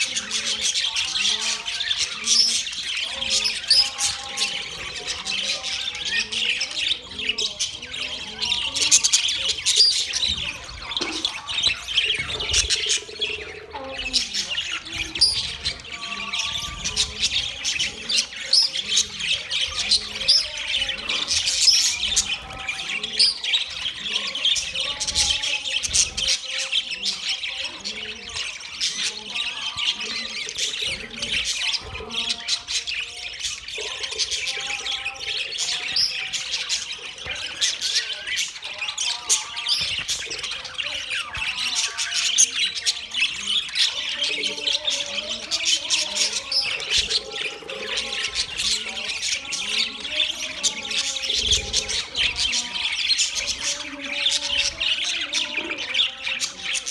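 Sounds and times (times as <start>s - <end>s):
flock of budgerigars chattering: 0.0s - 56.9s.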